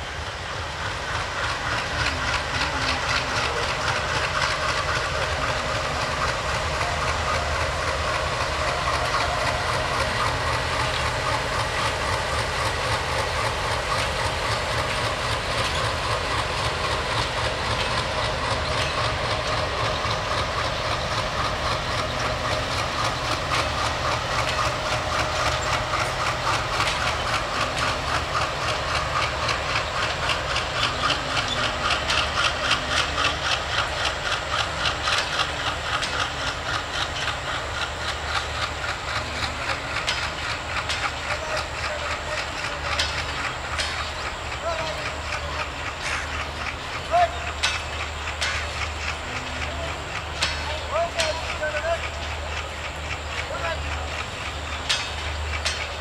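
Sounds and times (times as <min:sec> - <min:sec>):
diesel locomotive engine rumbling: 0:00.0 - 0:56.0
train wheels clattering over rail joints: 0:00.0 - 0:56.0.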